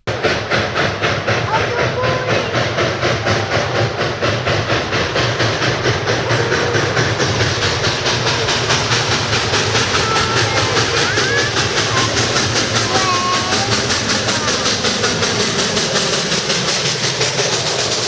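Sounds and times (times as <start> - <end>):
steam train chugging: 0.0 - 18.0.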